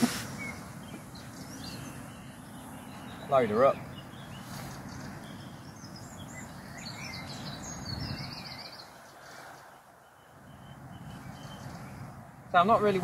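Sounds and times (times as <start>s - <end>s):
high trill of birdsong: 0.0s - 13.0s
small birds singing: 0.0s - 13.0s
steady outdoor background hiss: 0.0s - 13.0s.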